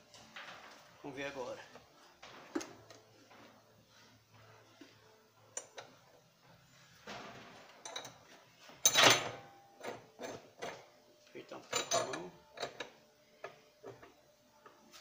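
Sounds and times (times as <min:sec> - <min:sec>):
metal clinking and scraping: 0:00.0 - 0:10.9, 0:11.6 - 0:14.2.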